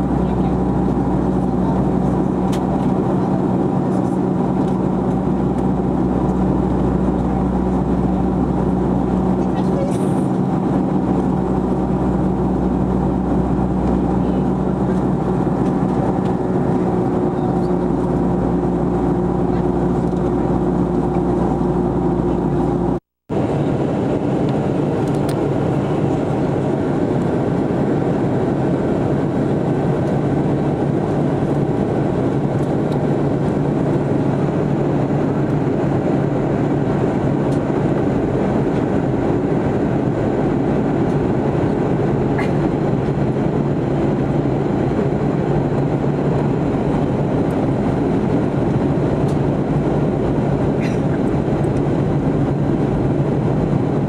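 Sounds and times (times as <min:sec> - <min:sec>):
airliner turbine engines roaring: 0:00.0 - 0:54.0
steady hum: 0:00.0 - 0:54.0.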